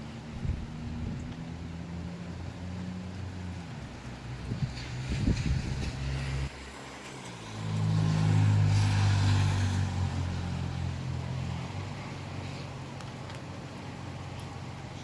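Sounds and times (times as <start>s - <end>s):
vehicle passing by: 0.2s - 13.0s.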